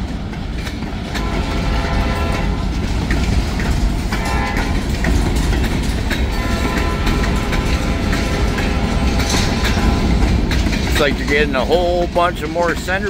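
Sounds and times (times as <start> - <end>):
freight cars rolling past: 0.0 - 13.0.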